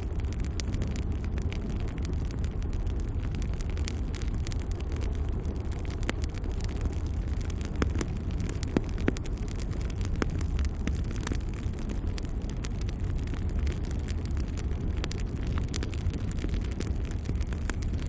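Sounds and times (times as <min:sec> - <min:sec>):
fire crackling and popping: 0:00.0 - 0:18.0
fire roaring: 0:00.0 - 0:18.0.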